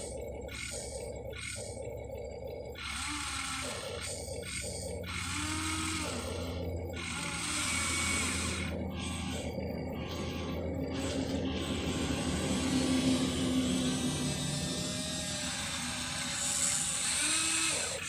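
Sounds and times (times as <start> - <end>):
small electric motors whining: 0.0 - 18.0
steady low hum: 0.0 - 18.0.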